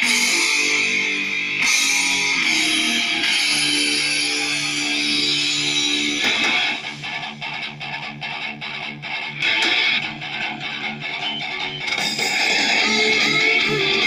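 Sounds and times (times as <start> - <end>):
guitar music through small speakers: 0.0 - 14.0.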